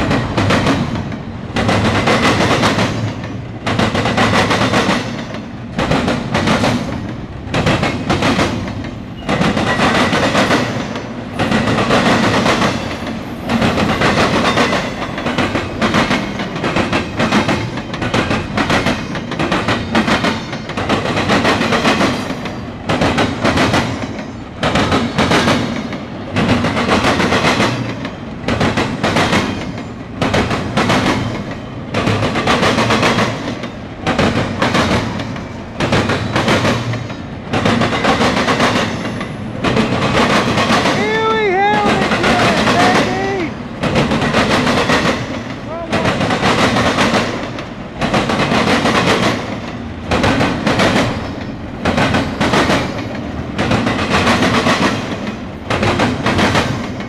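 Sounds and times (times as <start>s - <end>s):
train wheels clattering on track: 0.0s - 57.0s.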